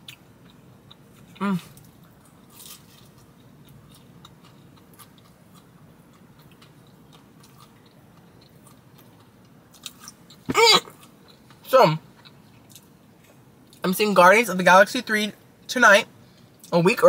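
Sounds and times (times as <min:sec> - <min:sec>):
chewing pizza: 0:00.0 - 0:13.8.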